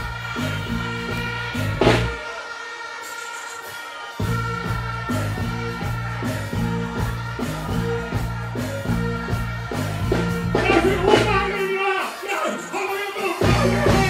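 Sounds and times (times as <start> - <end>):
dancehall bass line: 0.0 - 2.6, 4.1 - 14.0
performer singing: 0.0 - 14.0.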